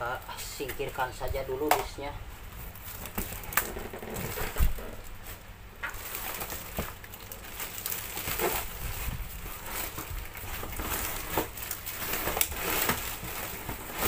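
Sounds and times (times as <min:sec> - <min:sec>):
cardboard rustling and scraping: 0:02.4 - 0:14.0.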